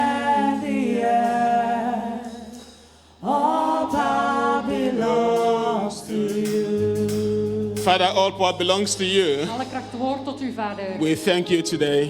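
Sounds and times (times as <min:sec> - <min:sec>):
unaccompanied voices singing: 0:00.0 - 0:12.0.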